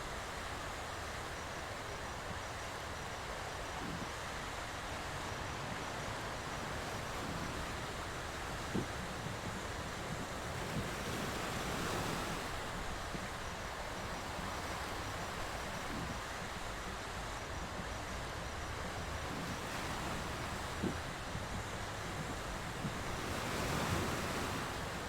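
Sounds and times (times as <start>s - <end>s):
sea surf washing: 0.0s - 25.0s.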